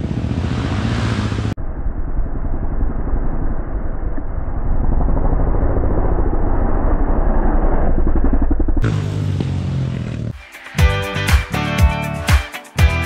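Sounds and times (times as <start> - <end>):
dirt bike engine passing: 0.0 - 10.6.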